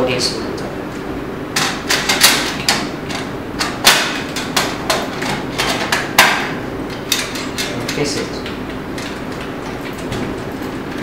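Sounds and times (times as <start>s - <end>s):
sheet metal knocks and clicks: 1.6s - 10.4s.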